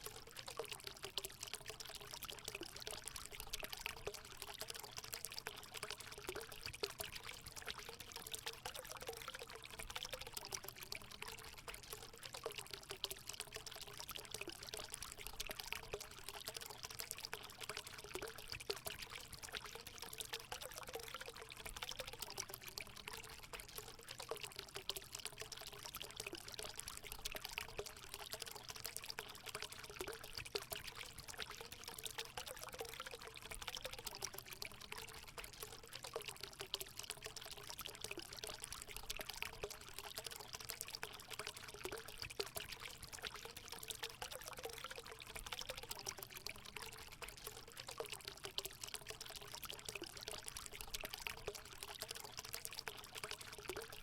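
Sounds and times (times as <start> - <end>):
water pouring into pool: 0.0 - 54.0.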